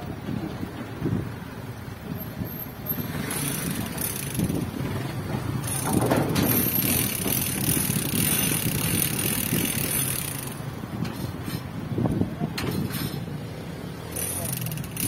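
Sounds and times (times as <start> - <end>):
road traffic: 0.0 - 15.0
truck engine under load: 0.0 - 15.0.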